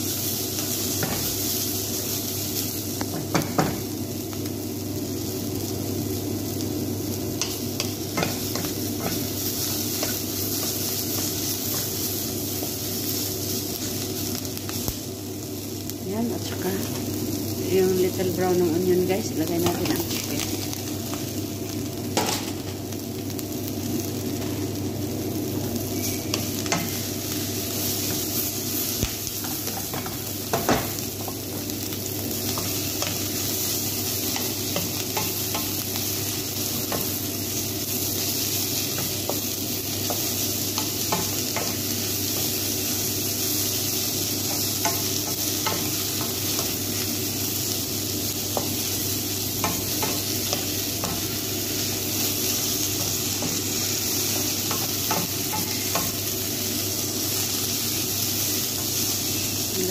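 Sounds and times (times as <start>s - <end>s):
food sizzling in frying pan: 0.0s - 59.9s.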